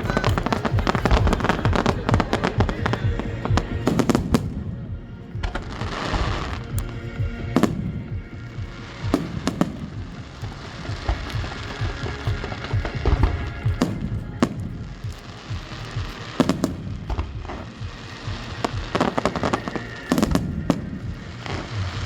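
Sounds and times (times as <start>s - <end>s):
fireworks bangs and crackles: 0.0s - 22.0s
music: 0.0s - 22.0s.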